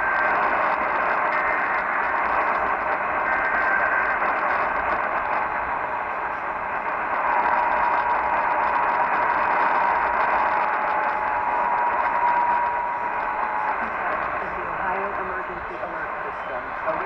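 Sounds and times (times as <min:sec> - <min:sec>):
faint steady tones: 0:00.0 - 0:17.0
radio static hiss: 0:00.0 - 0:17.0.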